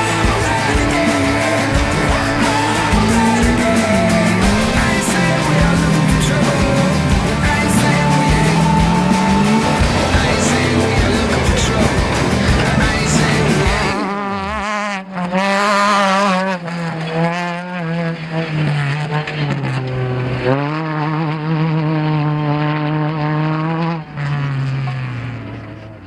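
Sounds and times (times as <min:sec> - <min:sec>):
engine running at high revs: 0:00.0 - 0:26.0.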